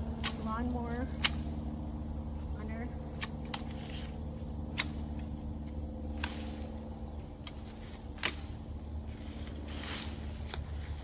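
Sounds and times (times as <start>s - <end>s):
pruning shears snipping: 0.0s - 1.6s, 3.0s - 11.0s
steady low hum: 0.0s - 11.0s.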